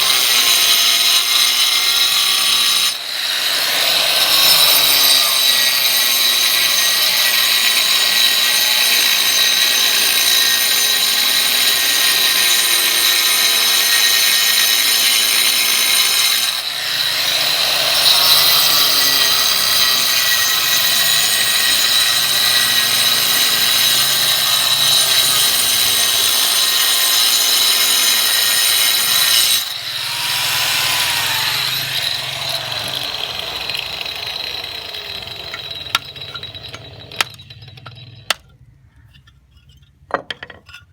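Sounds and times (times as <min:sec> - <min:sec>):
power tool whining: 0:00.0 - 0:38.5.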